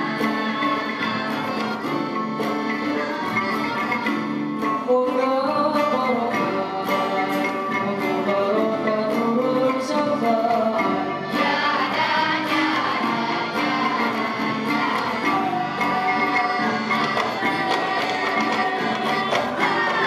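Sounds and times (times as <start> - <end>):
steady percussion beat: 0.0 - 20.0.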